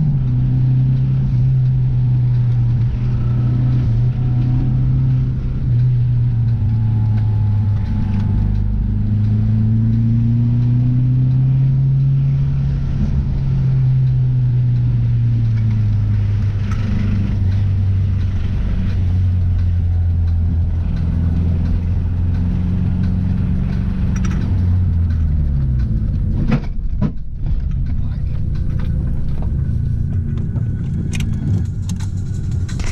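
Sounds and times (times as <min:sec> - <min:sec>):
car engine running: 0:00.0 - 0:32.9
road noise: 0:00.0 - 0:32.9.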